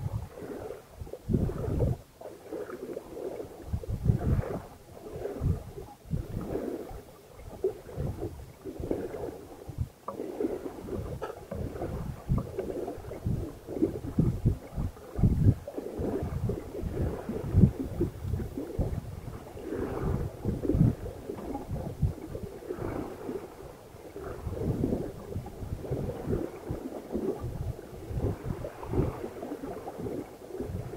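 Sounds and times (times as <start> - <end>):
water splashing along hull: 0.0 - 30.9
wind buffeting microphone: 0.0 - 30.9.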